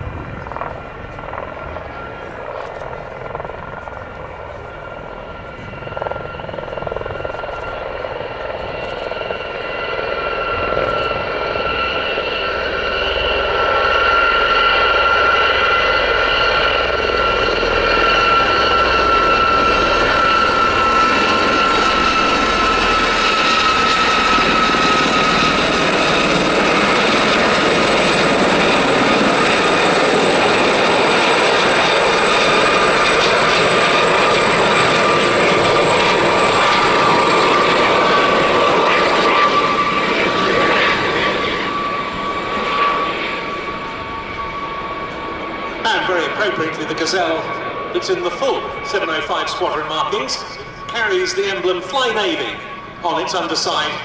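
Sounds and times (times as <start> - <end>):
helicopters flying past: 0.0 - 54.0.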